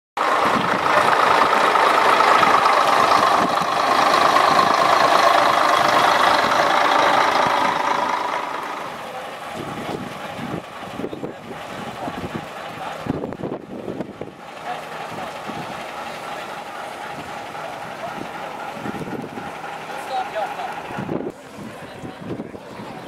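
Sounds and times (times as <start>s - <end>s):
diesel coach engine idling: 0.2s - 23.0s.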